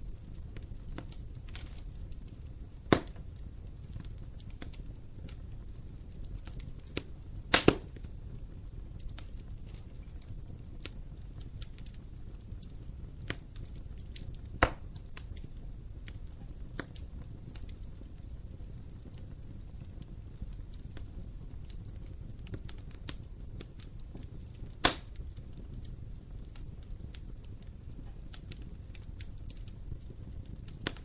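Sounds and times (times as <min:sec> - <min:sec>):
low rumble of flames: 0:00.0 - 0:31.0
sharp pops of fire: 0:00.0 - 0:31.0
wood fire crackling: 0:00.0 - 0:31.0.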